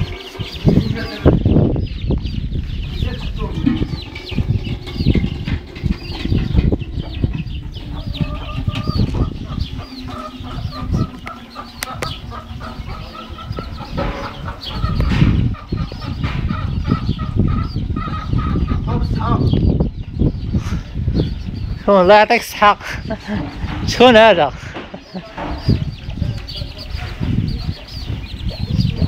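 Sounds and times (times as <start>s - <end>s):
low rumble on microphone: 0.0s - 22.0s, 22.9s - 29.0s
chicks peeping: 0.0s - 29.0s
hen clucking: 0.0s - 29.0s.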